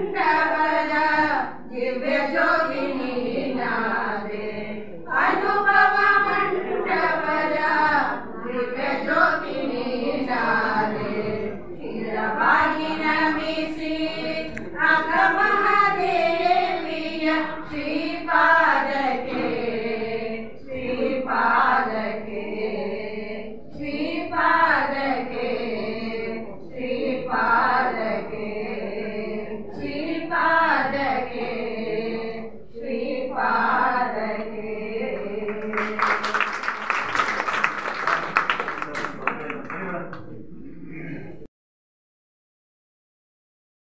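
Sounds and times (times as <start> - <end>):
women singing in chorus: 0.0 - 38.2.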